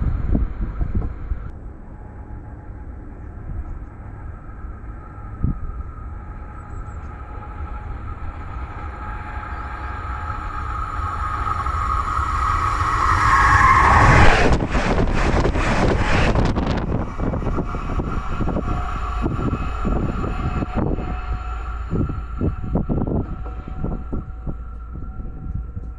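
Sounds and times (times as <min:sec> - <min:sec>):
steel rails ringing hum: 0:00.0 - 0:25.9
train passing with loud rush: 0:00.0 - 0:25.9.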